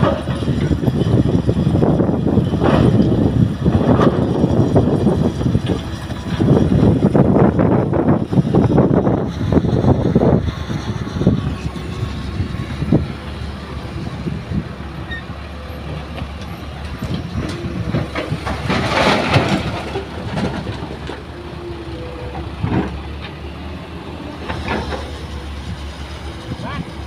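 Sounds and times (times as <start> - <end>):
diesel engines running: 0.0 - 27.0
truck clanks and rattles: 0.0 - 27.0.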